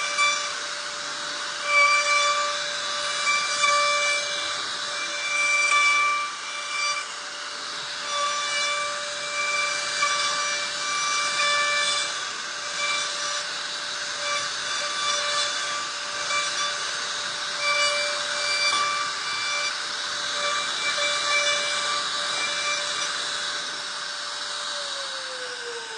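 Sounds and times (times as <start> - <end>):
rasping cutting noise: 0.0 - 25.1
router spindle high whine: 0.0 - 25.9.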